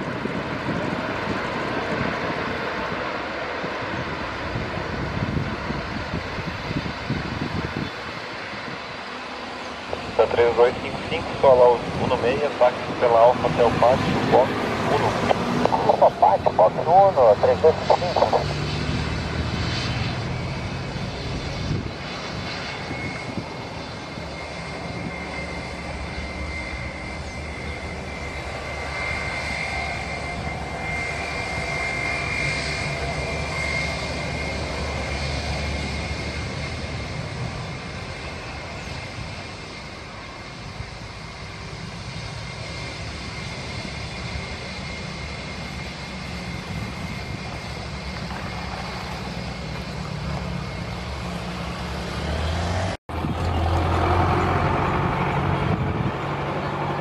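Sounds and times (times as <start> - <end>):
jet engines whining at low power: 0.0 - 57.0.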